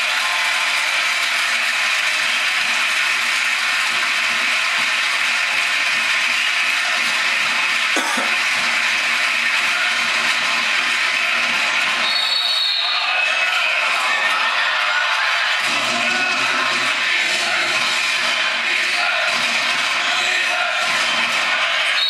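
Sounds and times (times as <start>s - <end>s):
basketball crowd din: 0.0s - 22.0s.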